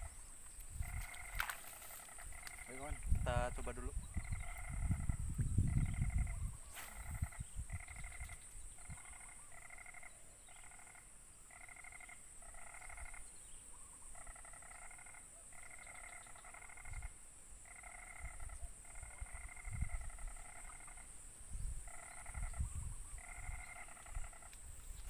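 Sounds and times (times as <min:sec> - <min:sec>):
frog calling: 0:00.0 - 0:21.2, 0:21.8 - 0:24.7
high insect drone: 0:00.0 - 0:25.0.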